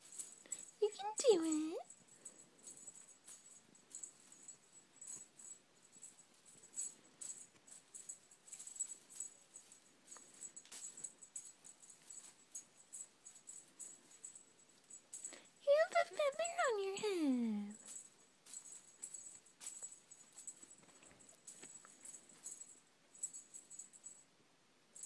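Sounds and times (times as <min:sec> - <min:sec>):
toy and bedding rustling: 0:00.0 - 0:24.2.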